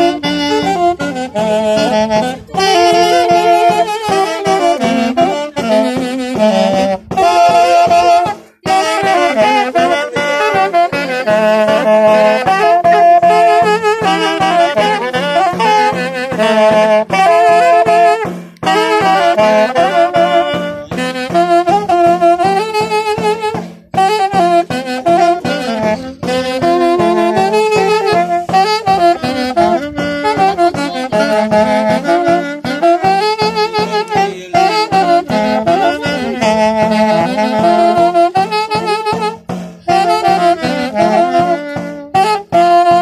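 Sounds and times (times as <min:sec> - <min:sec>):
hand drum beating: 0:00.0 - 0:43.0
saxophones playing in harmony: 0:00.0 - 0:43.0.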